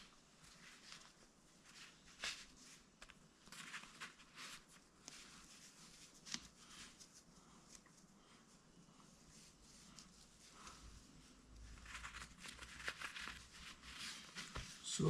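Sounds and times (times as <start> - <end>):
hands rustling a sandal lace: 0.0 - 15.0.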